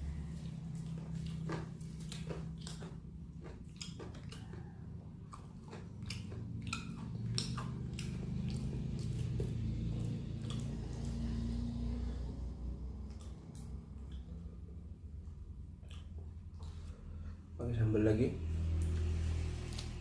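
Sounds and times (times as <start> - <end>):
chewing and biting food: 0.0 - 17.3, 18.5 - 20.0
low hum: 0.0 - 20.0.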